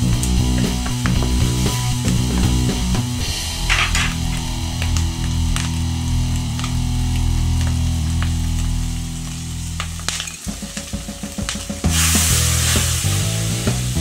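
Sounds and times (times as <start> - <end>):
food frying in a wok: 0.0 - 14.0
loud sizzle of liquid in pan: 0.0 - 14.0.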